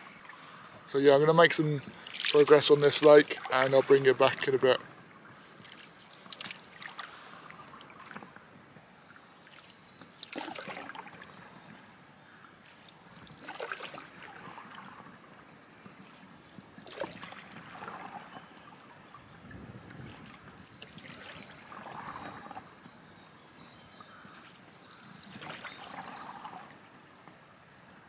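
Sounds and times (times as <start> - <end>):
canoe paddle splashing in water: 1.8 - 11.9, 12.6 - 22.9, 23.6 - 26.8.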